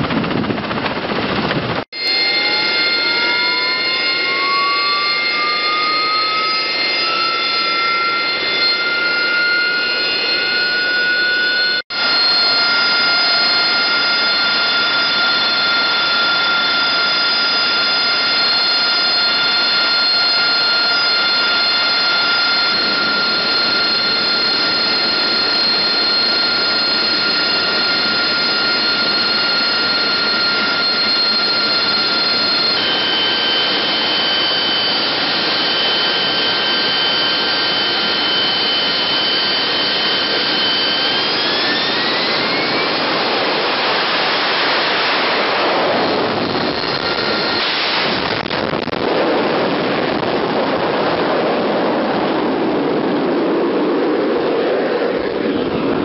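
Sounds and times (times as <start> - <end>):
jet engine whining: 0.0 - 56.0.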